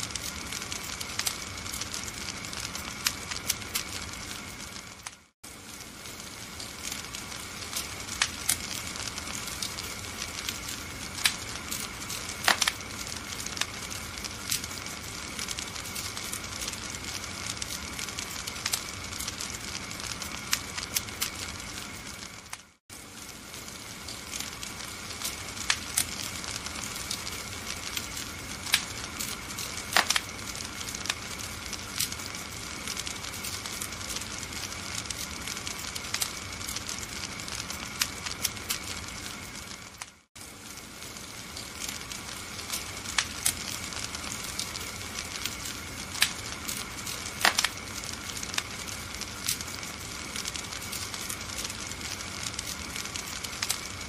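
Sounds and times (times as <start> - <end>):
fire hissing: 0.0 - 54.0
wood fire crackling: 0.0 - 54.0.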